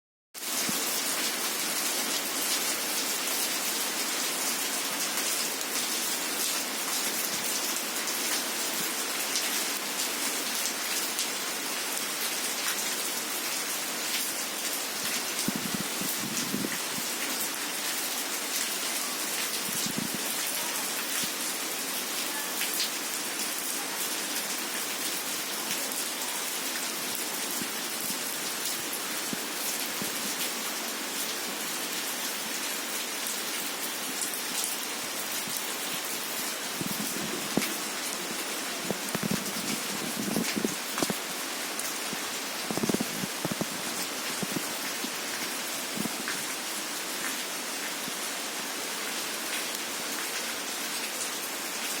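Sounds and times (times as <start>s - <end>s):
heavy rain falling: 0.4s - 52.0s.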